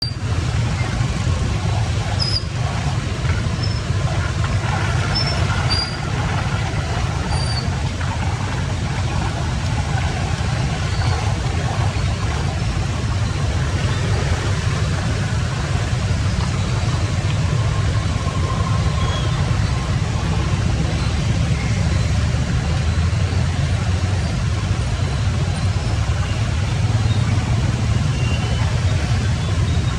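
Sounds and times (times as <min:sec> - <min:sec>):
water rushing: 0:00.0 - 0:29.9.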